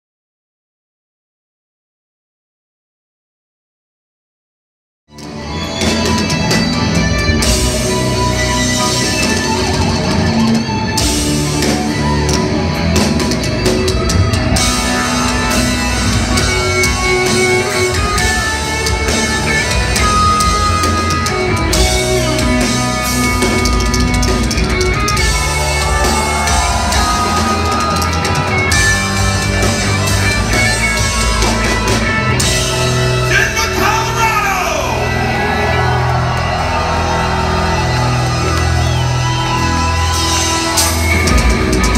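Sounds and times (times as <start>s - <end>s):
bass: 5.1s - 41.9s
keyboards: 5.1s - 41.9s
electric guitar: 5.2s - 33.8s, 34.9s - 41.9s
drum kit: 5.2s - 41.9s.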